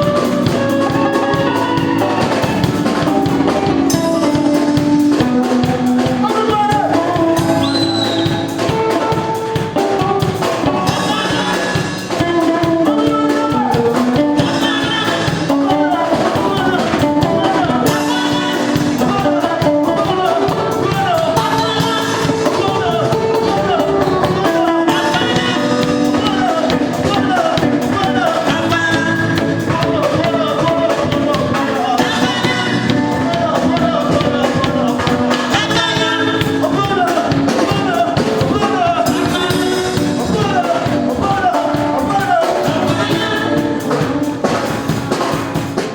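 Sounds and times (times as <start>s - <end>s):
drum kit: 0.0s - 45.9s
gospel band playing: 0.0s - 45.9s
person singing: 0.0s - 45.9s
sustained keyboard chords: 0.0s - 45.9s.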